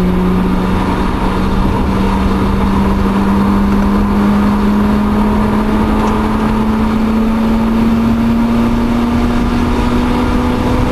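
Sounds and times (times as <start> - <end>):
rotary engine running at high revs: 0.0 - 10.9
wind noise: 0.0 - 10.9.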